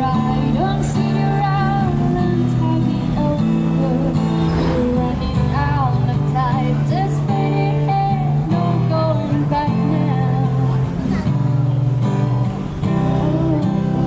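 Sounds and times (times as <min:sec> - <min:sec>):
woman singing into a microphone: 0:00.0 - 0:11.4, 0:12.8 - 0:14.0
acoustic guitar strumming: 0:00.0 - 0:14.0.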